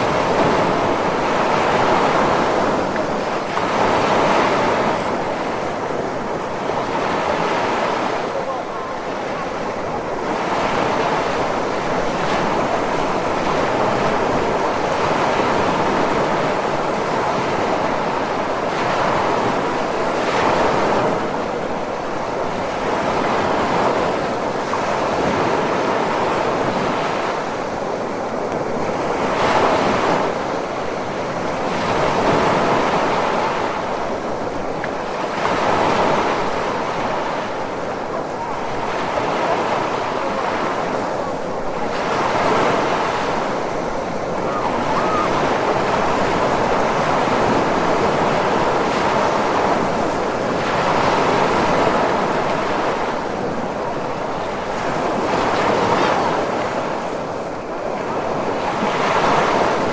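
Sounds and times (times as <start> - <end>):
ocean waves washing: 0.0 - 59.9.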